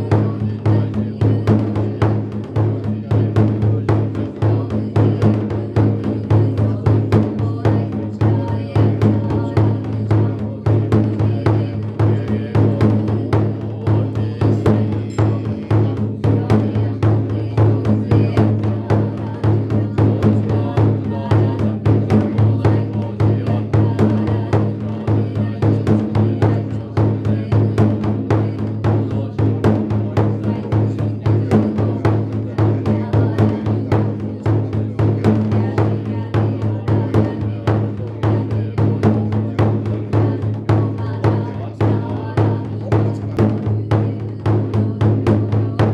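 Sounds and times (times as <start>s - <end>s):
large drum beating: 0.0s - 45.9s.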